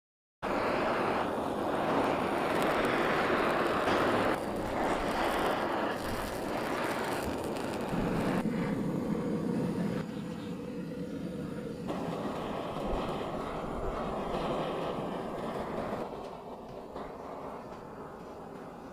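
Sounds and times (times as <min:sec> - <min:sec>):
blowtorch flame hissing: 0:00.4 - 0:18.9.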